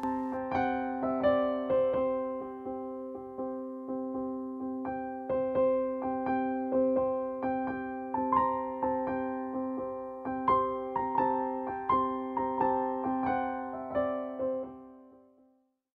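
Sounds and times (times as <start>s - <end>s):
slow gentle piano music: 0.0s - 15.6s.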